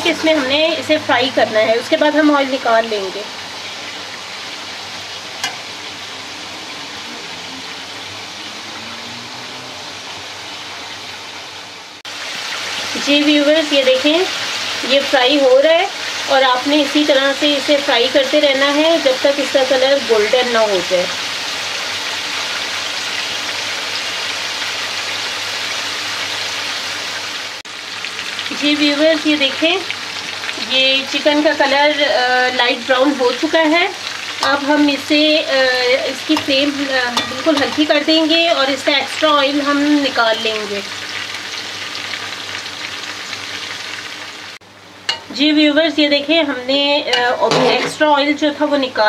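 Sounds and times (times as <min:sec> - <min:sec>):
chicken frying in hot oil: 0:00.0 - 0:49.0.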